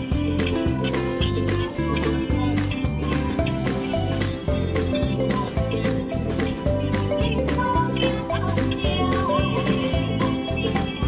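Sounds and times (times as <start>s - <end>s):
music with plucked guitar and bass: 0.0s - 11.0s.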